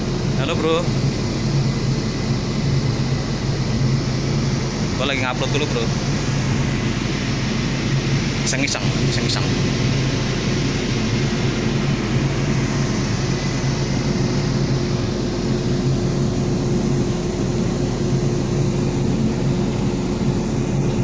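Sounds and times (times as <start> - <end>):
ship engine hum: 0.0 - 21.0.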